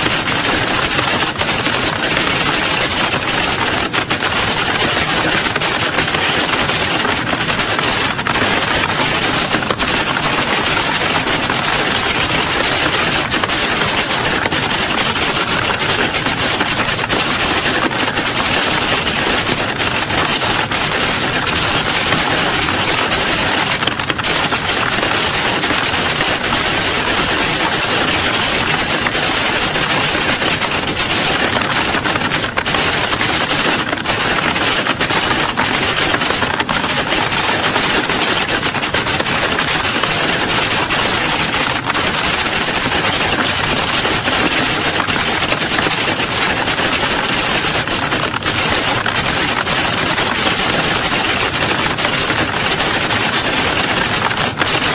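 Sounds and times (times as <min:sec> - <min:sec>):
many keyboards typing: 0:00.0 - 0:54.9.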